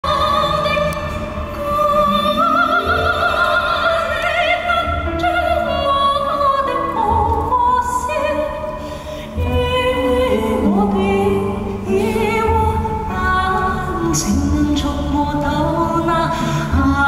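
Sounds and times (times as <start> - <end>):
orchestral accompaniment: 0.0 - 17.0.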